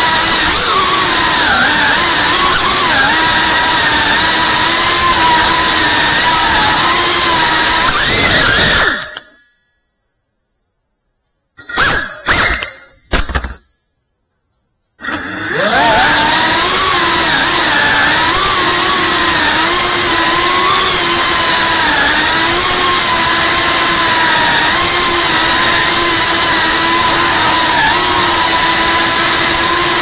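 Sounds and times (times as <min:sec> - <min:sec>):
drone motors and propellers buzzing: 0:00.0 - 0:09.4, 0:15.0 - 0:30.0.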